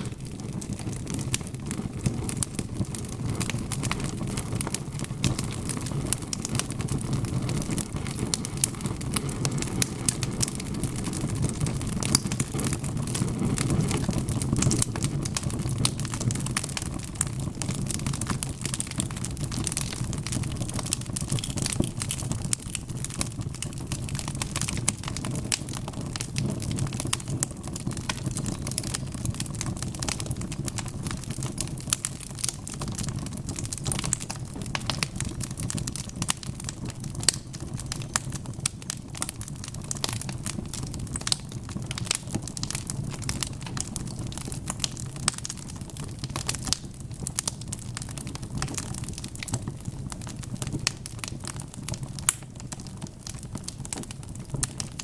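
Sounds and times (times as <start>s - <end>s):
logs crackling and popping: 0.0s - 55.0s
low rumble of fire: 0.0s - 55.0s.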